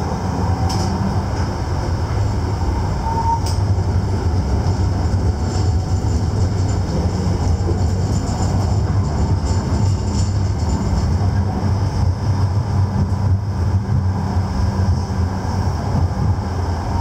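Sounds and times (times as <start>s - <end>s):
tram rumbling along track: 0.0s - 17.0s.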